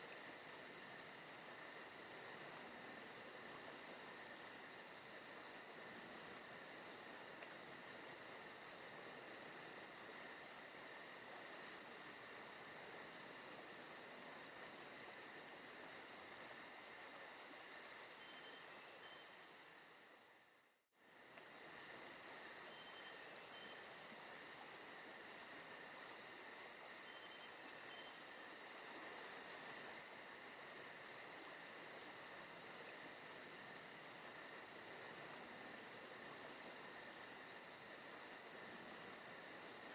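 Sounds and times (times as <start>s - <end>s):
crickets and insects trilling: 0.1s - 39.9s.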